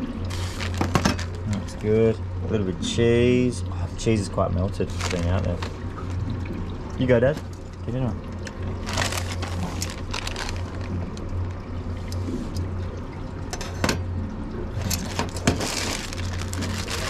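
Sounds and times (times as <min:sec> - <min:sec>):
steady low hum: 0:00.0 - 0:17.0
water sloshing and lapping: 0:00.0 - 0:17.0.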